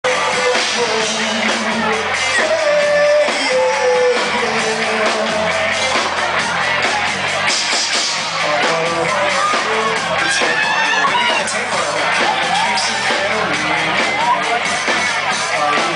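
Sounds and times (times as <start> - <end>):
man singing: 0.0 - 6.1, 7.5 - 15.9
drums: 0.0 - 15.9
live rock band playing: 0.0 - 15.9.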